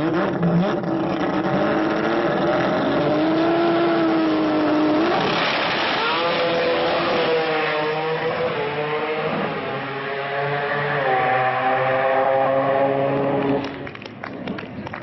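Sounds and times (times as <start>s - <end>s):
rotary engine revving: 0.0s - 13.9s.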